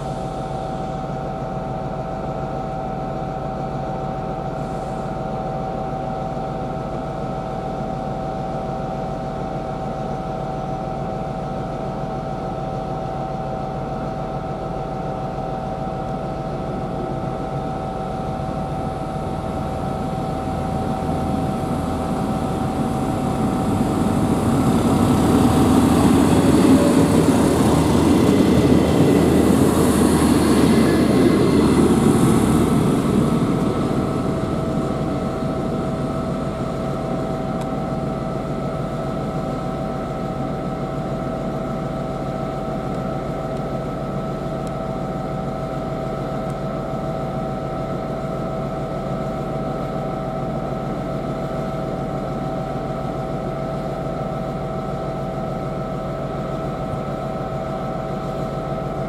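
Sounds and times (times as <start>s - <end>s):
train engine running: 0.0s - 59.0s.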